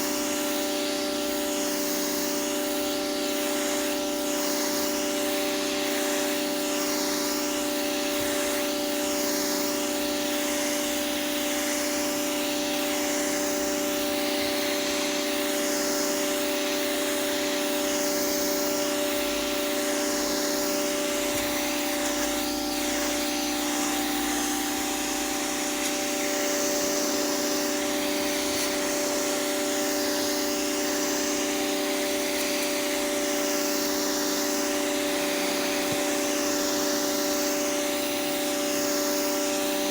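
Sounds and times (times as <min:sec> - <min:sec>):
pressure washer motor hum: 0:00.0 - 0:39.9
water jet hissing on pavement: 0:00.0 - 0:39.9.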